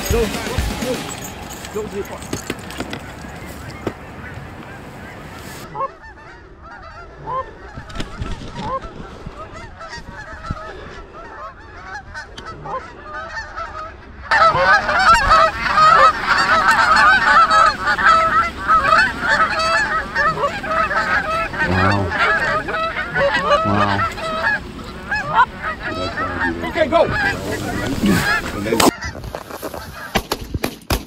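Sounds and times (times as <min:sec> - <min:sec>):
geese honking: 0:00.0 - 0:30.3.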